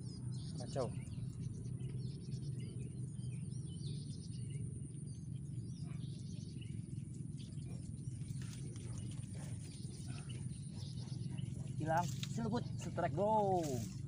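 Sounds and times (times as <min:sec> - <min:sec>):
low background rumble: 0:00.0 - 0:14.0
small birds chirping: 0:00.0 - 0:14.0.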